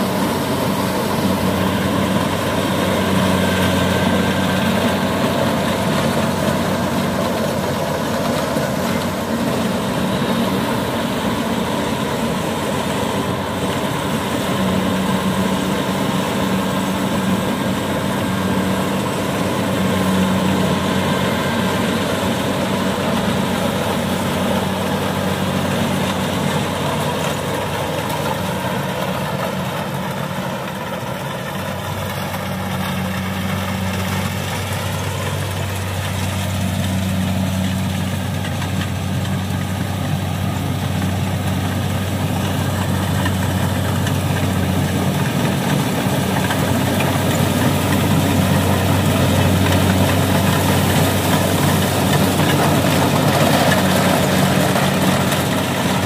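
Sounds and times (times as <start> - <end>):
diesel engine humming: 0.0 - 56.0
harvester machinery clattering: 0.0 - 56.0.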